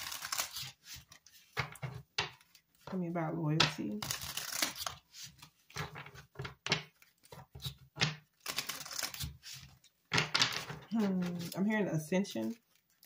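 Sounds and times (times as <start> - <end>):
cards being shuffled: 0.0 - 3.0, 3.6 - 11.7.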